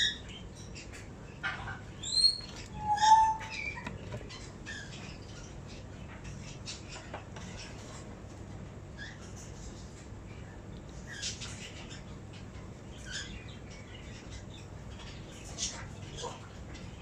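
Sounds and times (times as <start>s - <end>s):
parakeet chick squawking and chirping: 0.0s - 8.2s, 8.8s - 17.0s.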